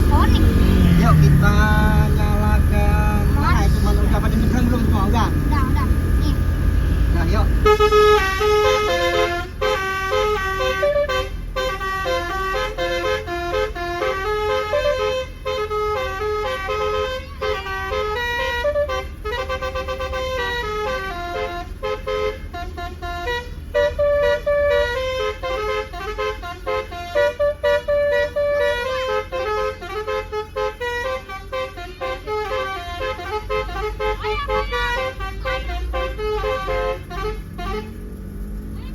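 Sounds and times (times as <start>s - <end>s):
bus engine rumble: 0.0s - 38.9s
bus horn melody: 0.0s - 38.9s.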